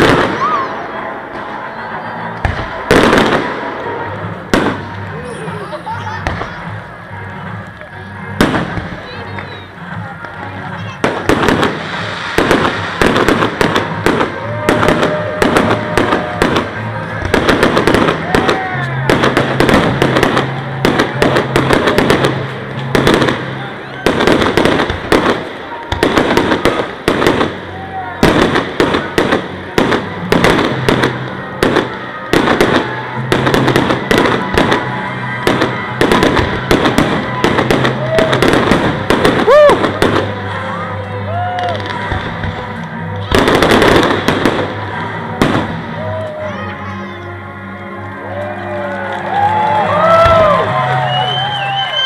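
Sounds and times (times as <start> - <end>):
fireworks bursting: 0.0 - 46.5
fireworks crackling: 0.0 - 52.0.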